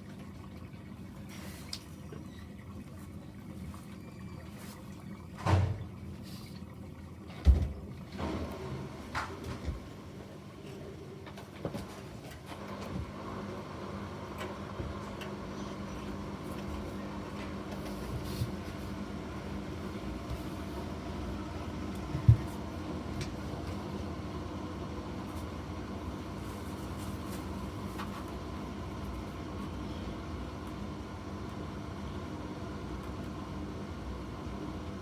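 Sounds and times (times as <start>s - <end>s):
washing machine motor hum: 0.0s - 35.0s.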